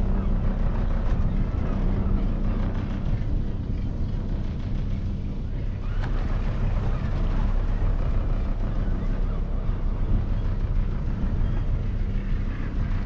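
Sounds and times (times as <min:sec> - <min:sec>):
boat engine humming: 0:00.0 - 0:13.0
wind noise on microphone: 0:00.0 - 0:13.0.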